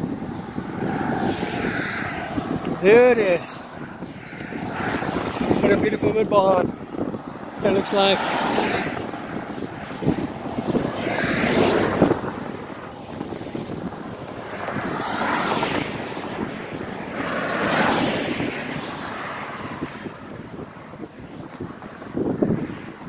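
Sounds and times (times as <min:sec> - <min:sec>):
cars swishing past: 0:00.0 - 0:23.0
wind buffeting microphone: 0:00.0 - 0:23.0.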